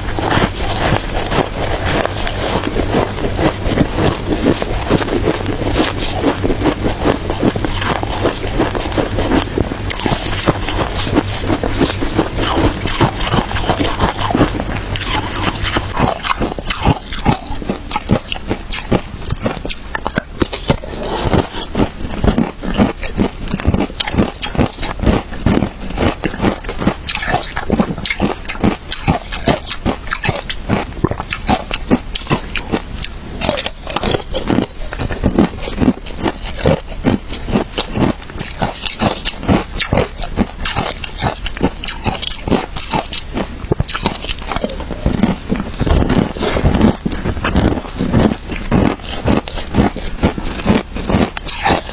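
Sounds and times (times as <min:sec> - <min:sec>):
person chewing crunchy ice: 0:00.0 - 0:51.9.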